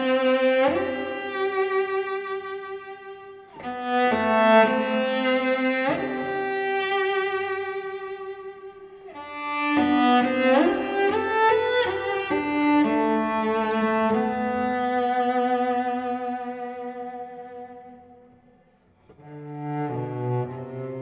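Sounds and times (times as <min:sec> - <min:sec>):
slow violin and cello melody: 0:00.0 - 0:21.0.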